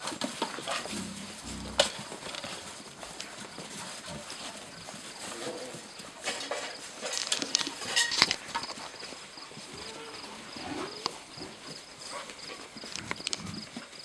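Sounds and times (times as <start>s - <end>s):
scratchy clicks of puppy paws: 0.0s - 9.8s, 10.7s - 14.0s.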